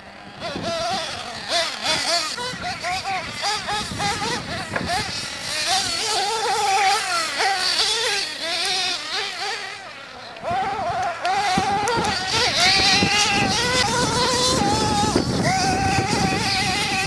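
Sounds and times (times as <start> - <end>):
rc car engines buzzing: 0.0 - 17.0.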